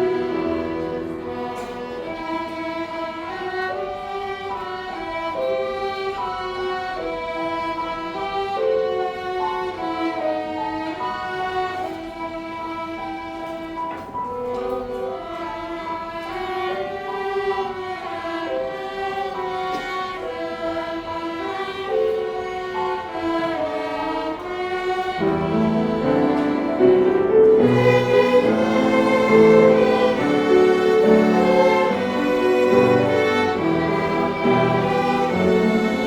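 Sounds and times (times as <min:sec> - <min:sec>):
string ensemble playing slow melody: 0:00.0 - 0:36.0.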